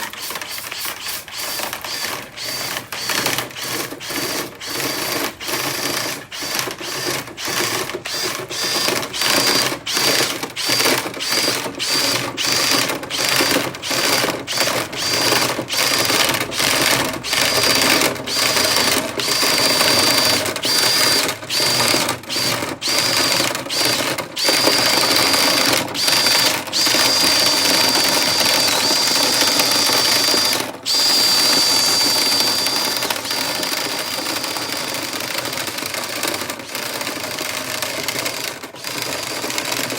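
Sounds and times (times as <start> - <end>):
power drill motor whine: 0.0 - 35.9, 38.8 - 39.9.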